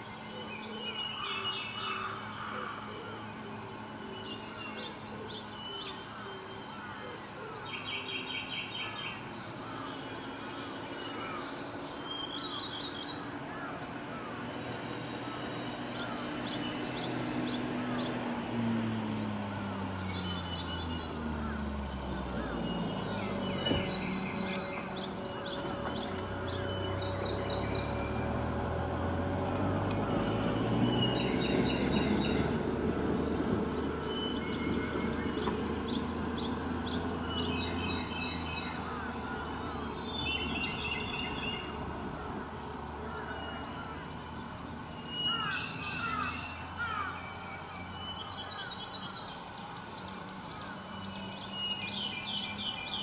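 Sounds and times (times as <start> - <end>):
engine humming low: 0.0 - 53.0
wild birds calling: 0.0 - 53.0.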